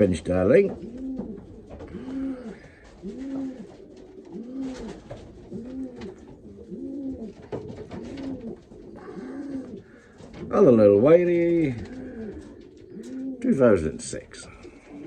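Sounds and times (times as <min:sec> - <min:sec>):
pigeon cooing: 0:00.0 - 0:15.0.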